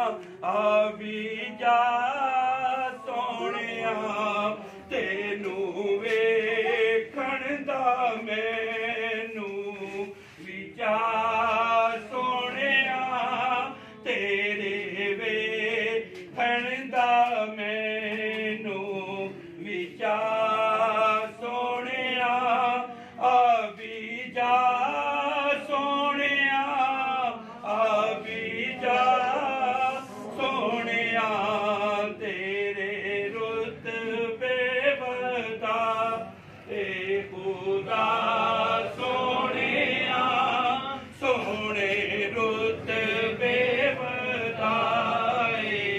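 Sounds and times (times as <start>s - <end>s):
man singing unaccompanied: 0.0s - 45.9s.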